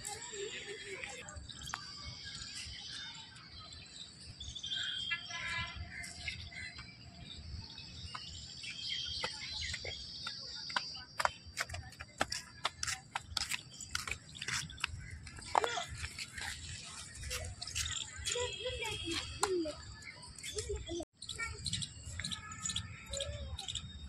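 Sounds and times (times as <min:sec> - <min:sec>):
birds chirping: 0:00.0 - 0:24.0
outdoor background noise: 0:00.0 - 0:24.0.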